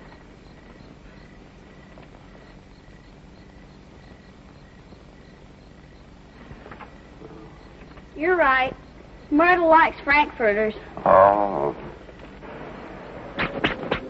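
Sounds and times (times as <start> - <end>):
crickets chirping: 0.0 - 14.0
film soundtrack hiss and hum: 0.0 - 14.0.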